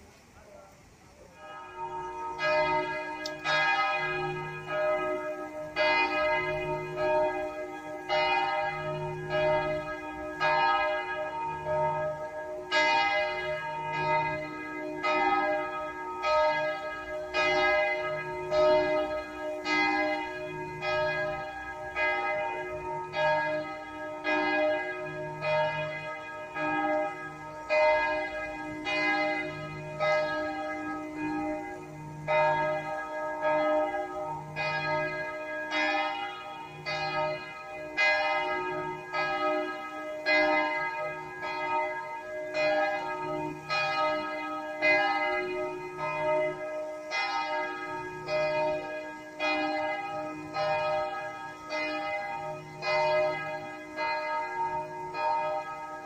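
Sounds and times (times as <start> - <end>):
church bells pealing: 1.3 - 56.0.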